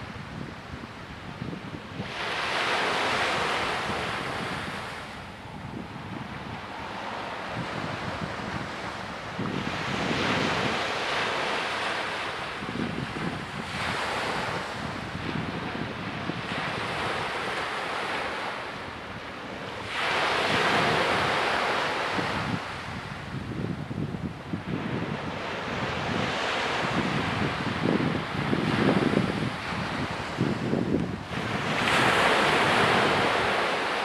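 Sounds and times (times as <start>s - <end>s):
small waves washing on sand: 0.0s - 34.0s
wind rumble on microphone: 0.0s - 34.0s.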